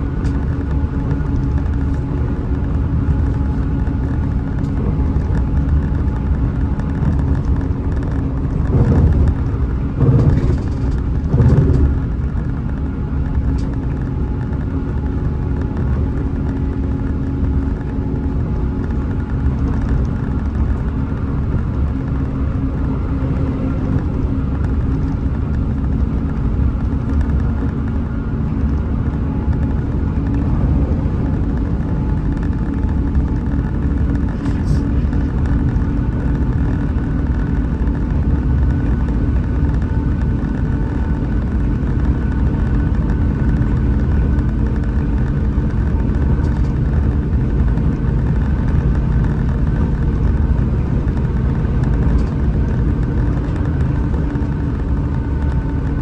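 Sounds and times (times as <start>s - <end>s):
bus diesel engine running: 0.0s - 56.0s
road noise rumble: 0.0s - 56.0s.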